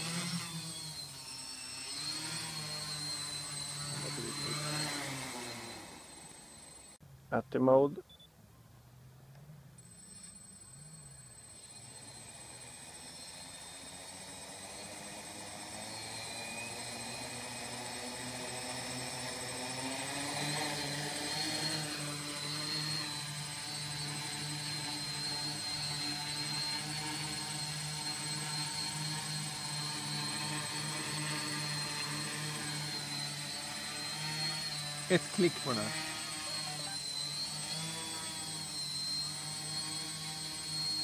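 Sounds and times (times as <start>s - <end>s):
drone propellers buzzing: 0.0s - 7.0s, 9.4s - 41.0s.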